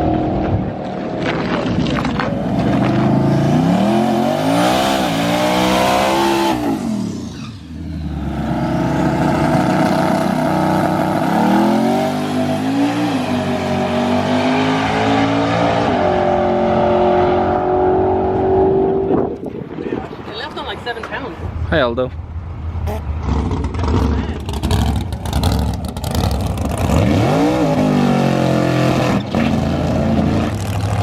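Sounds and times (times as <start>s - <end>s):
car engine accelerating hard: 0.0s - 19.4s, 23.2s - 31.0s.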